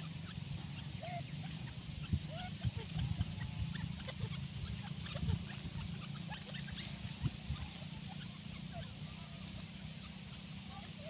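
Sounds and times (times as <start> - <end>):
faint bird chirps: 0.0 - 11.0
low background rumble: 0.0 - 11.0.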